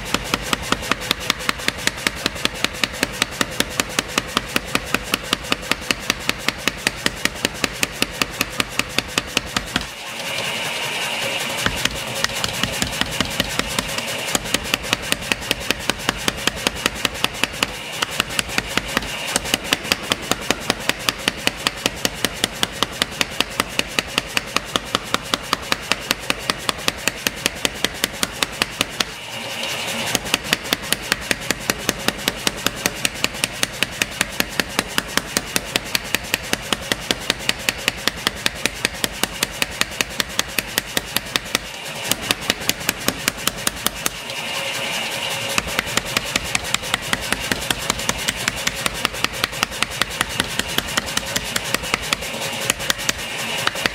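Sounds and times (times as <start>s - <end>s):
machine drive running: 0.0s - 53.9s
power hammer pounding metal: 0.0s - 53.9s.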